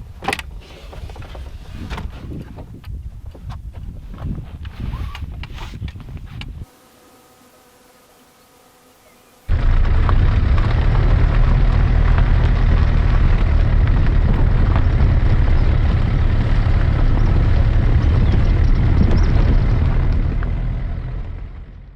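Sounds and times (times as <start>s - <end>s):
strong wind buffeting microphone: 1.3s - 6.7s, 9.5s - 21.9s.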